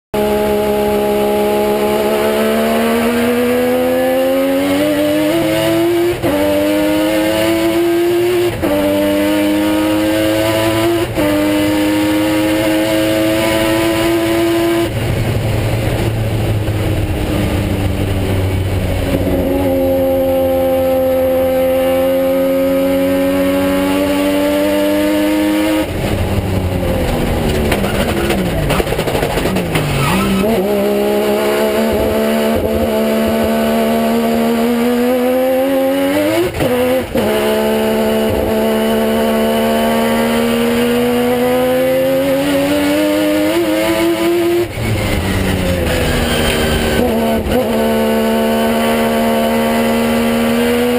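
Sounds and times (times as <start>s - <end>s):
rotary race car engine revving: 0.1s - 50.9s.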